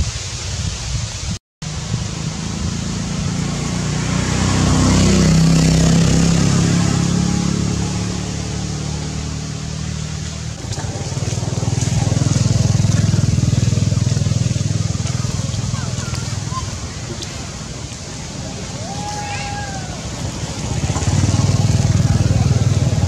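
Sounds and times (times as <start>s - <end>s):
vehicle engine running: 1.6s - 23.0s.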